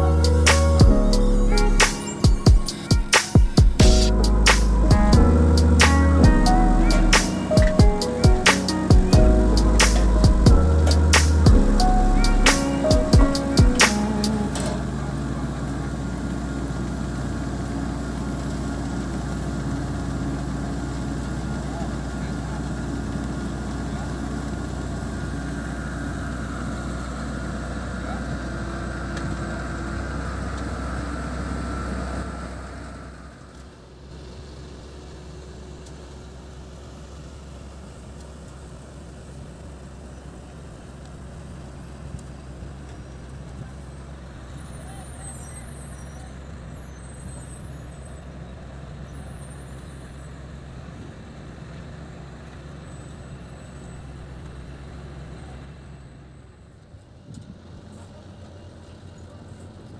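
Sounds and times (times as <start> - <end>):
diesel machinery engine hum: 0.0 - 59.9.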